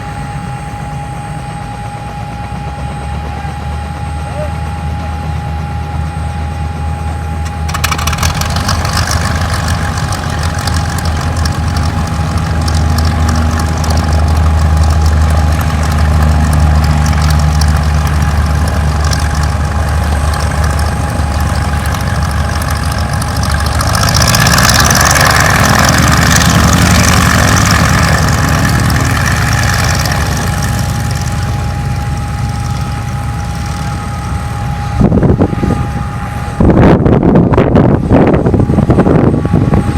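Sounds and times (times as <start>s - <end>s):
engine idling with whine: 0.0s - 39.9s
rushing noise: 7.7s - 39.8s.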